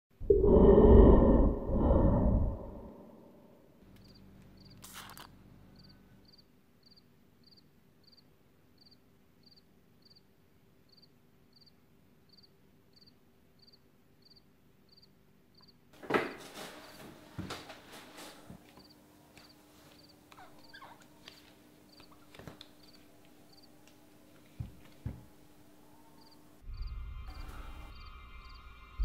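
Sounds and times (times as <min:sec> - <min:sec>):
crickets chirping: 0:00.3 - 0:10.3, 0:10.9 - 0:15.7, 0:18.8 - 0:20.9, 0:21.8 - 0:29.0.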